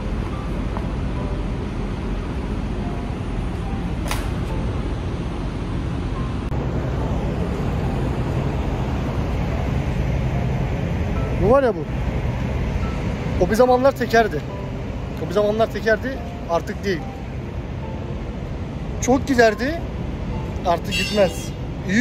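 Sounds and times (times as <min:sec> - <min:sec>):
rumble of vehicles and machinery: 0:00.0 - 0:22.0.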